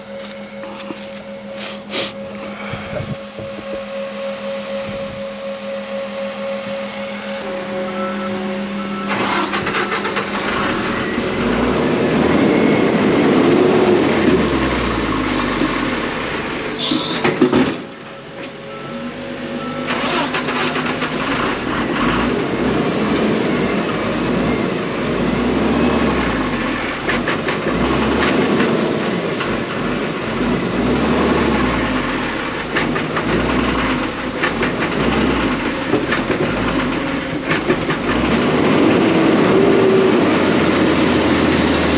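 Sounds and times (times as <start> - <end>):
heavy diesel machinery running: 0.0 - 41.9.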